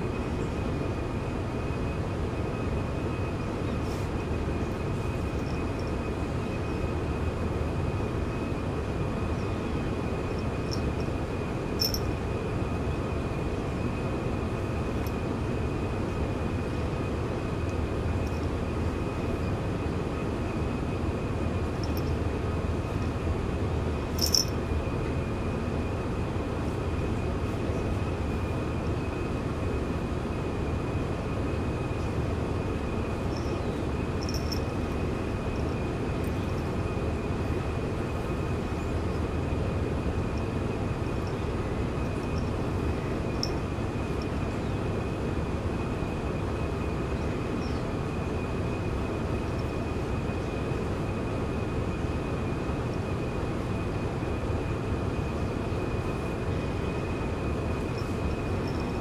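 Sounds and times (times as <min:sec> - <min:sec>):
low rumbling room noise: 0:00.0 - 0:59.0
thin high whine: 0:00.0 - 0:59.0.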